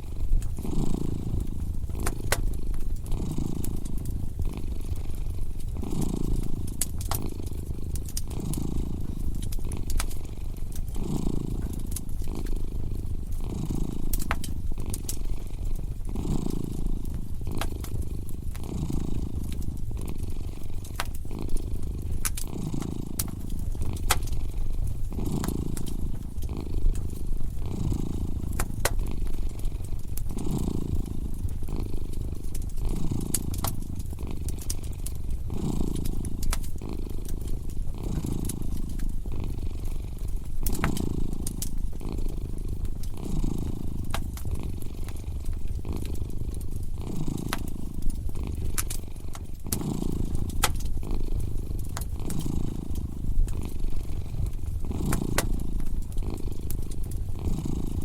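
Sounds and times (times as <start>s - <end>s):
cat purring: 0.0s - 58.0s
fire crackling and popping: 0.0s - 58.0s.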